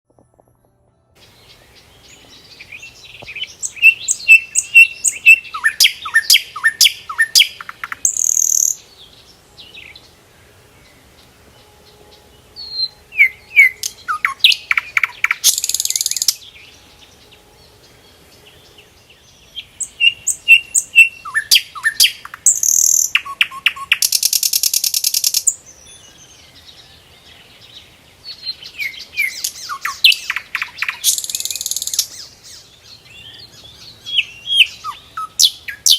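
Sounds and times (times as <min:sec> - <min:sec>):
small songbird singing: 0:01.2 - 0:35.9.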